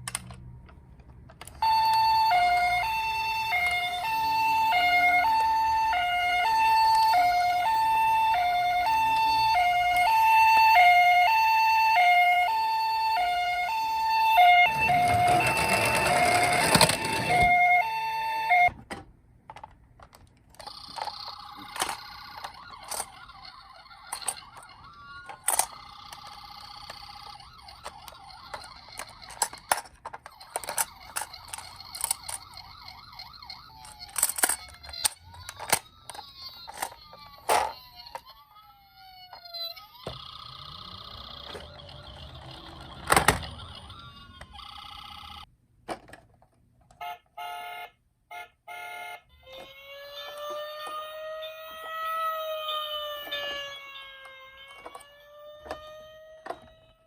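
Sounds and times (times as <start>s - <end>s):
wailing toy siren: 1.4s - 18.8s, 20.6s - 45.5s, 47.0s - 57.0s
toy siren steady tone: 1.6s - 18.8s, 20.6s - 45.5s, 47.0s - 57.0s.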